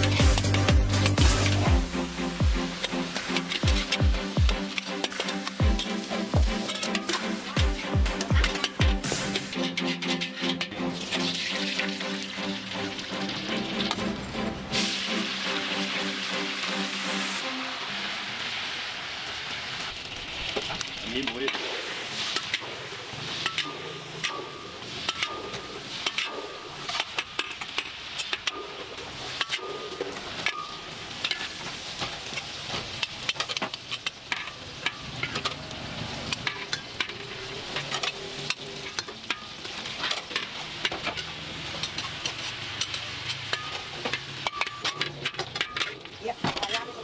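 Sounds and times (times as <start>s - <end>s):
hot oil sizzling in a wok: 0.0s - 47.0s.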